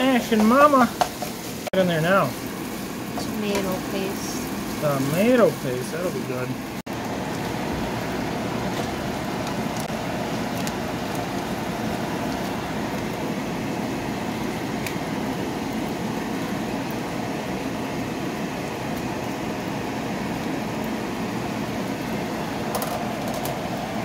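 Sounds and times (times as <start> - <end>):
sauce simmering in frying pan: 0.0 - 24.0.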